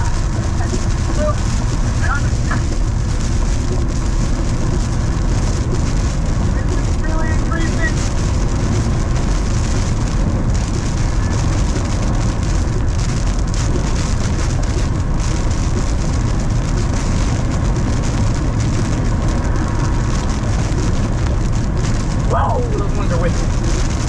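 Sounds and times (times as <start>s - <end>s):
deep thunder rumble: 0.0s - 24.0s
heavy rain falling: 0.0s - 24.0s.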